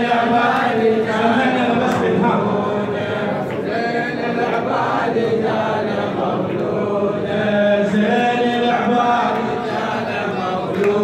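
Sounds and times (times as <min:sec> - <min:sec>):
men chanting a praise song: 0:00.0 - 0:11.0.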